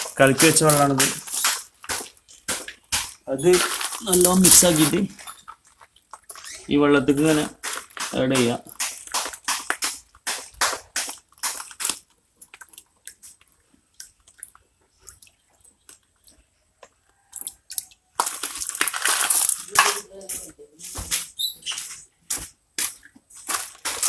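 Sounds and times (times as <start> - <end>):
small clicks and crunches: 0.0 - 24.0.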